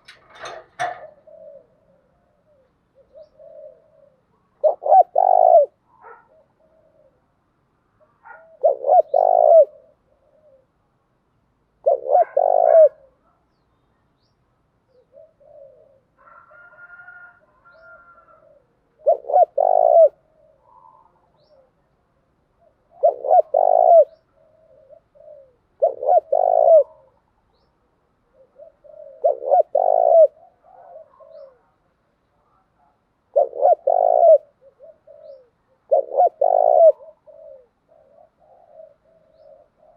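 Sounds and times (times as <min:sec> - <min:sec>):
dove cooing: 0:00.0 - 0:07.4, 0:08.0 - 0:10.8, 0:11.8 - 0:13.4, 0:14.9 - 0:21.9, 0:22.6 - 0:31.8, 0:32.4 - 0:39.9.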